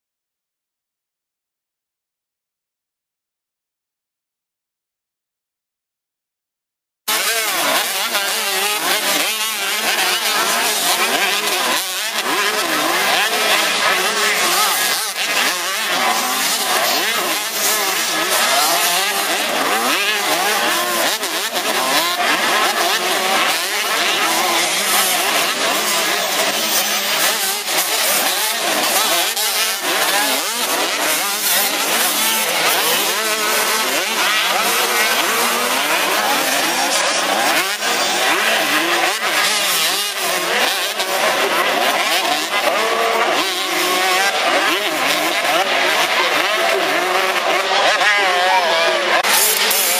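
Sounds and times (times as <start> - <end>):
motocross bikes revving: 7.1 - 49.9.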